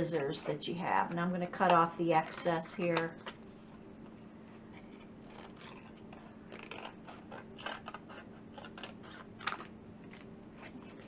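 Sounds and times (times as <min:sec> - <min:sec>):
scissors cutting paper: 0:00.0 - 0:03.4, 0:05.2 - 0:11.0.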